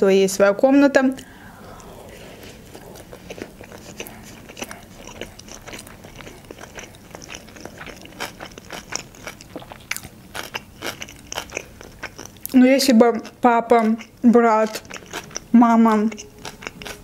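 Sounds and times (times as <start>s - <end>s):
woman chewing with wet mouth clicks: 2.6s - 17.0s.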